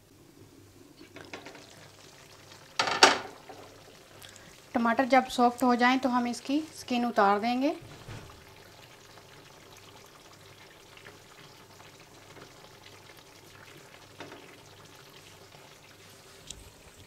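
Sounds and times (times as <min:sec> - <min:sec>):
food sizzling in a wok: 0:00.1 - 0:17.0.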